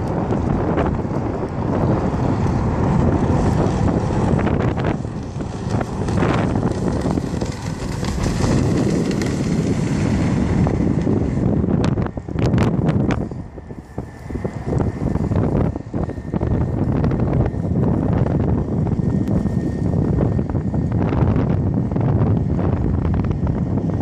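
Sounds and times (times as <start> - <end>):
jet ski engine running: 0.0 - 24.0
wind buffeting microphone: 0.0 - 24.0.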